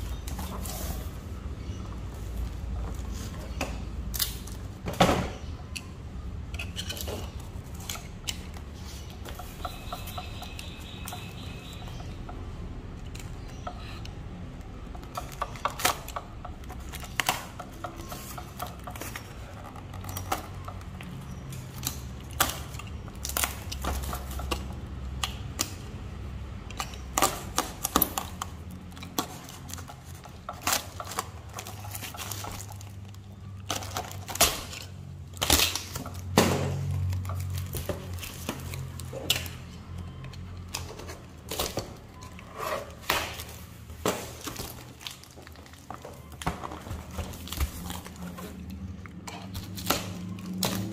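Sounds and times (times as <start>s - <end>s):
cardboard handling noises: 0.0s - 5.6s, 15.0s - 26.3s, 26.9s - 50.9s.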